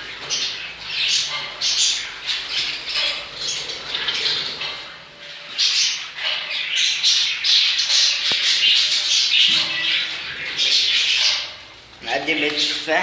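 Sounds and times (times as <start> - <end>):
lovebirds squawking: 0.0 - 13.0.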